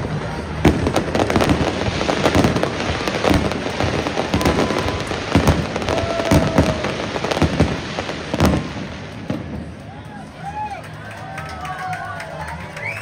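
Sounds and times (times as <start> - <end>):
fireworks bursting and crackling: 0.0 - 10.7.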